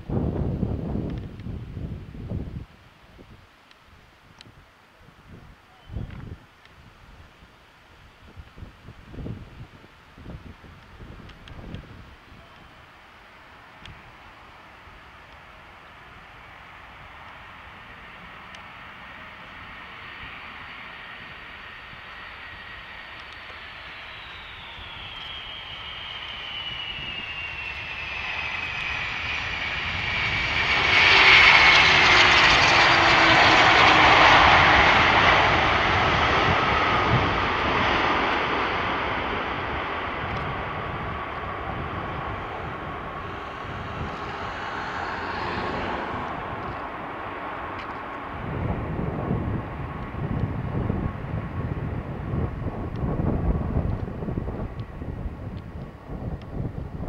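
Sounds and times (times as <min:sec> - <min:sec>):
deep rumble of plane on runway: 0:00.0 - 0:57.0
jet engines whining: 0:09.7 - 0:57.0.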